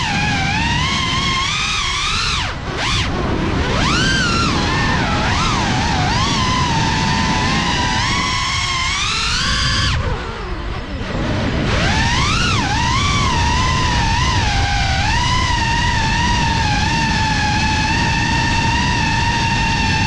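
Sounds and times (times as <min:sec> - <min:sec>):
drone motors whining: 0:00.0 - 0:20.0
low wind rumble: 0:00.0 - 0:20.0.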